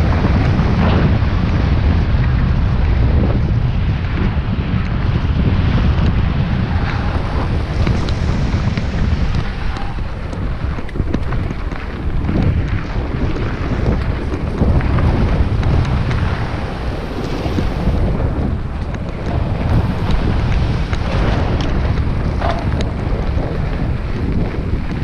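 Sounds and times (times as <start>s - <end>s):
bike clicks and rattles: 0.0s - 25.0s
tyres rumbling on dirt trail: 0.0s - 25.0s
wind buffeting microphone: 0.0s - 25.0s.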